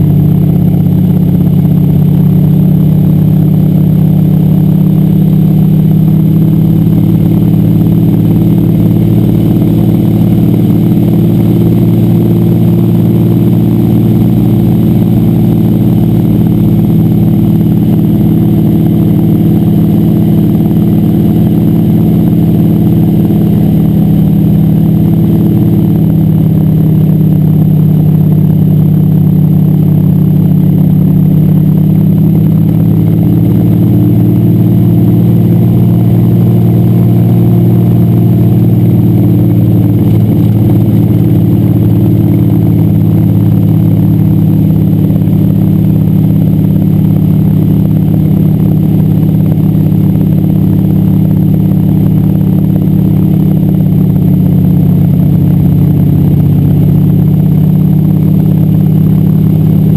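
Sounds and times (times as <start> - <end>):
plane engine and propeller: 0.0 - 59.9.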